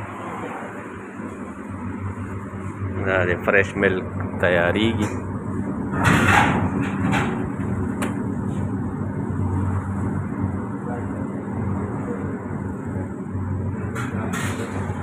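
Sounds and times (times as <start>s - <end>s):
kitchen extractor hood humming: 0.0s - 15.0s.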